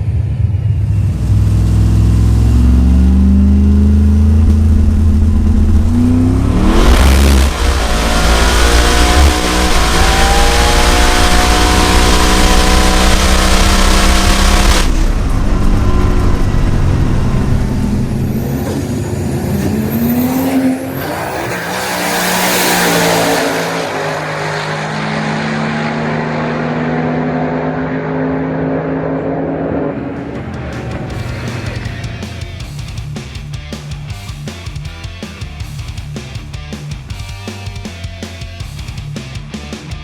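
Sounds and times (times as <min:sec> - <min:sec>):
loud racing engine: 0:00.0 - 0:40.0
quieter engine revving: 0:00.0 - 0:40.0.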